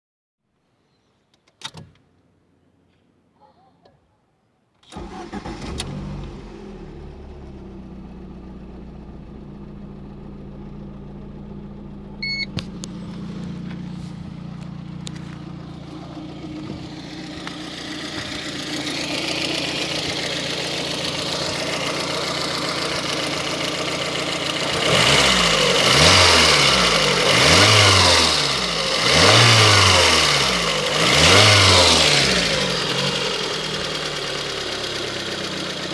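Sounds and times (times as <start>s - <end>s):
engine revving: 4.9s - 8.9s, 10.2s - 35.9s
car engine starting and idling: 4.9s - 35.9s.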